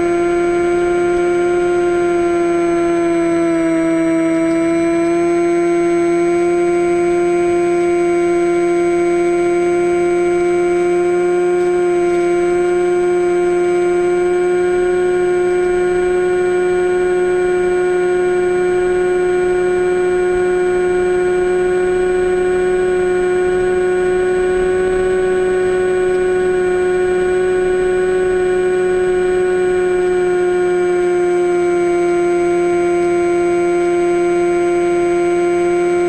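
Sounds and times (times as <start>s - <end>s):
electric motor propeller whine: 0.0s - 36.0s.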